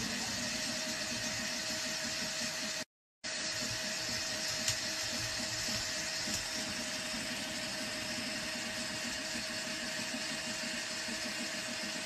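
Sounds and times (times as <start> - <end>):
cooling fans whirring: 0.0 - 12.0
stepper motors buzzing: 0.0 - 12.0.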